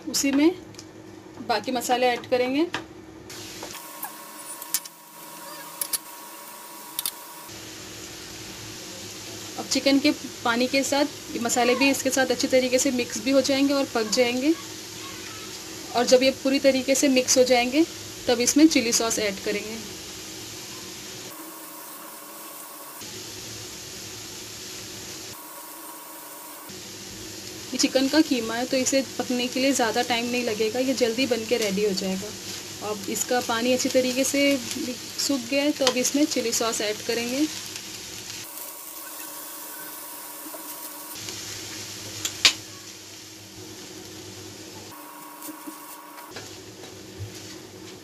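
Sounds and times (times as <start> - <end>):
meat sizzling in a frying pan: 3.3 - 48.0.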